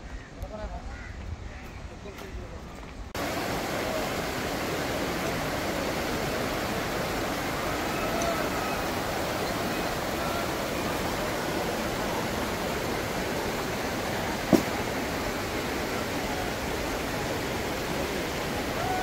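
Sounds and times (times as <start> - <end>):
waterfall roaring: 3.2 - 19.0.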